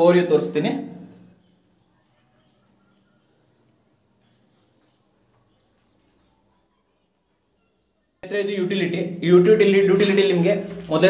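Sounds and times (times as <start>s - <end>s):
faint high-pitched chirring: 0.2s - 11.0s.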